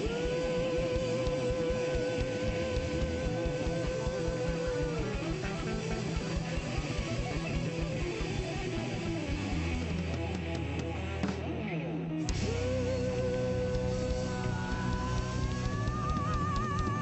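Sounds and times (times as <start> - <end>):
guitar music over a steady beat: 0.0 - 17.0.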